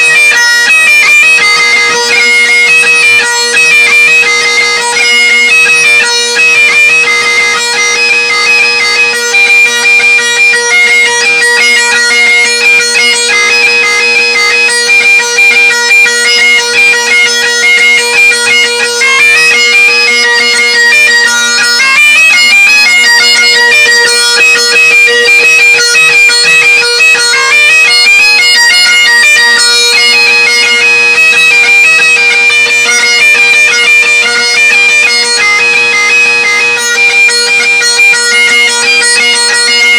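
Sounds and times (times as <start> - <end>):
bagpipe playing: 0.0 - 39.9.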